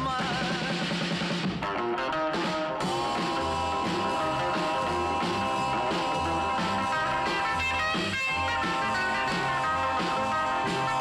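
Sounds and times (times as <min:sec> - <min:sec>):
rock music with guitar and bass: 0:00.0 - 0:11.0.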